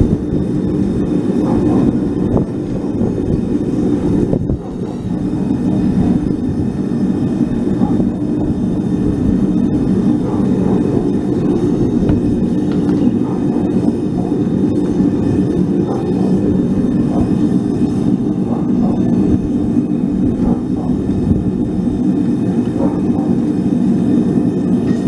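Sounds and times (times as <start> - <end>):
gas burner rumble: 0.0 - 25.0.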